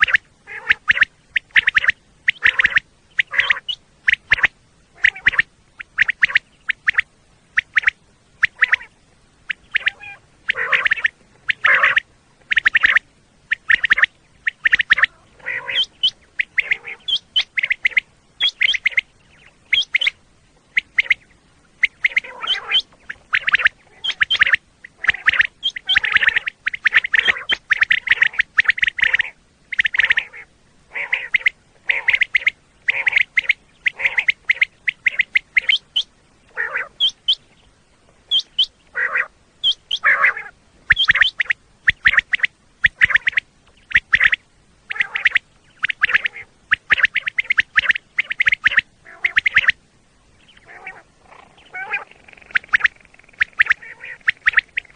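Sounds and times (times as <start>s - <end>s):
quail calling in sharp notes: 0.0s - 54.9s.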